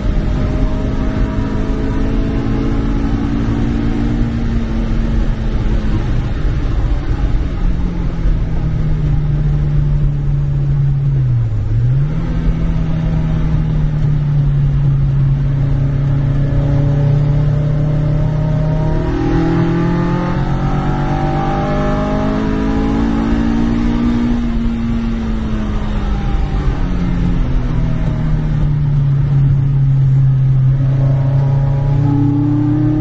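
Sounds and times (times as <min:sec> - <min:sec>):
race car engine: 0:00.0 - 0:33.0
road noise: 0:00.0 - 0:33.0.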